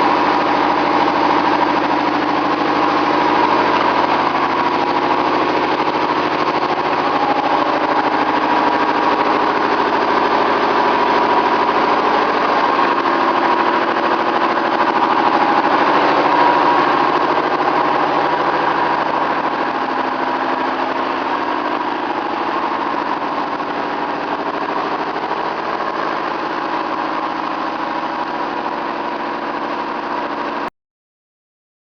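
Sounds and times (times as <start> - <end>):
milling machine running: 0.0 - 30.7.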